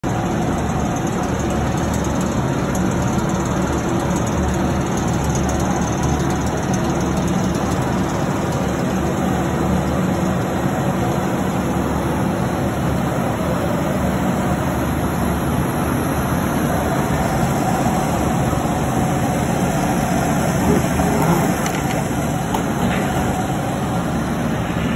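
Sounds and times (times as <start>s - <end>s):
machinery low hum: 0.1s - 24.9s.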